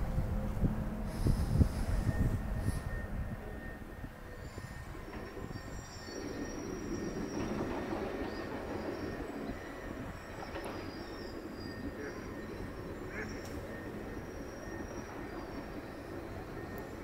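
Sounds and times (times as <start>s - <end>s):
distant traffic rumble: 0.0s - 17.0s
faint high squeals: 1.1s - 17.0s.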